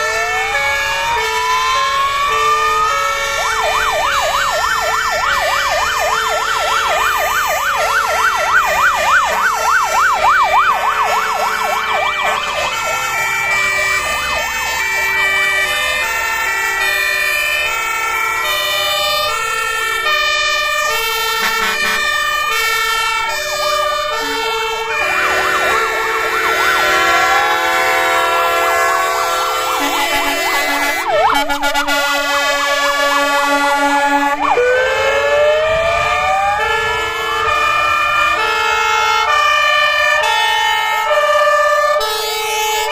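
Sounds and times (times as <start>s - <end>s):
fire engine sirens: 0.0s - 42.9s.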